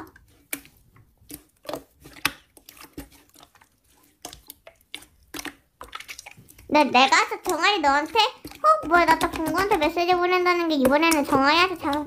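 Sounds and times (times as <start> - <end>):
slime squishing with clicks and pops: 0.0 - 12.0.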